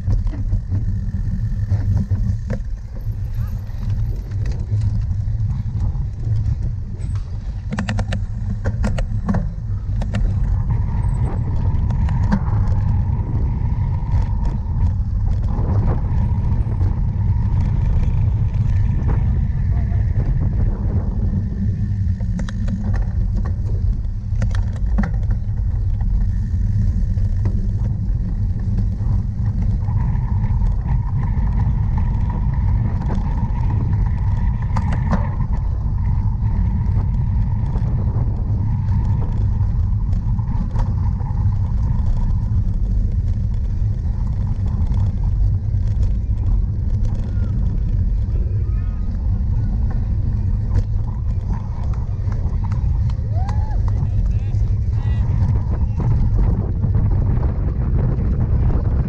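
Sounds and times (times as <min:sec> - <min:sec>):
bike clicks and rattles: 0:00.0 - 0:59.0
wind buffeting microphone: 0:00.0 - 0:59.0.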